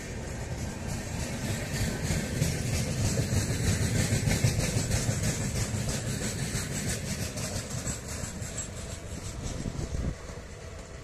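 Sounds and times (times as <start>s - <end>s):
train wheels rumbling on rail: 0.0s - 11.0s
wheels clattering over rail joints: 0.0s - 11.0s.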